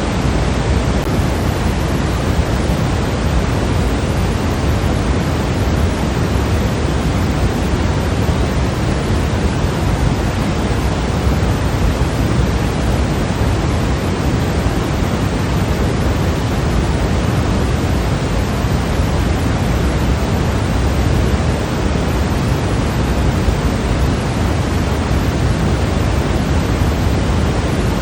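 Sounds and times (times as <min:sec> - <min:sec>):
white noise hiss: 0:00.0 - 0:28.0.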